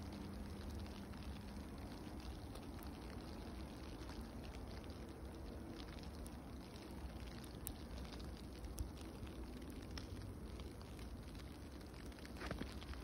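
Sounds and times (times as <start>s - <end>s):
freezing rain hissing on snow: 0.0s - 13.0s.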